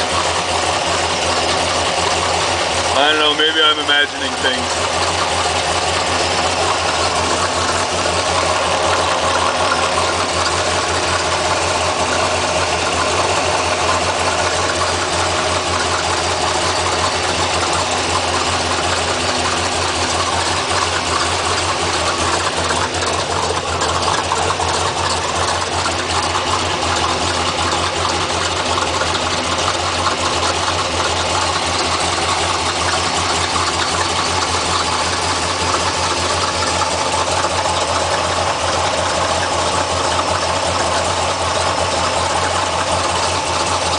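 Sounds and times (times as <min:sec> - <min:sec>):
engine idling hum: 0:00.0 - 0:43.9.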